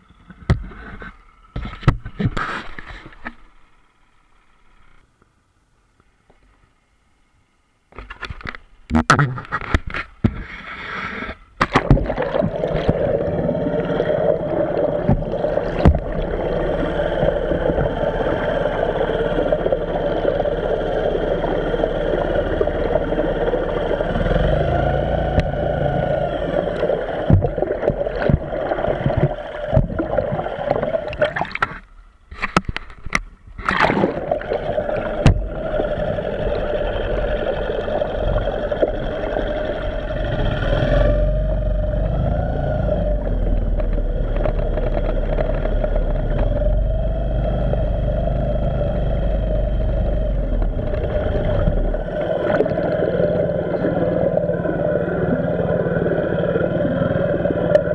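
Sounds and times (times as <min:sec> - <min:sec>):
outboard motor underwater: 0:00.0 - 0:57.9
water gurgle: 0:08.9 - 0:57.9.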